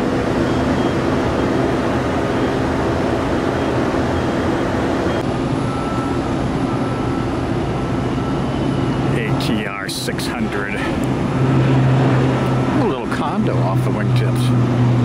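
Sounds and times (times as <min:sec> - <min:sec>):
jet airliner engines rumbling: 0:00.0 - 0:15.0
turboprop engines whining: 0:00.0 - 0:15.0.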